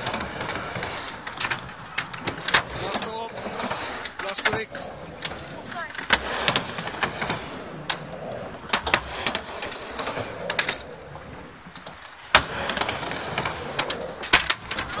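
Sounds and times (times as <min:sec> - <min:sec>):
skateboard clacking on ramp: 0:00.0 - 0:15.0
skateboard wheels rolling: 0:00.0 - 0:15.0.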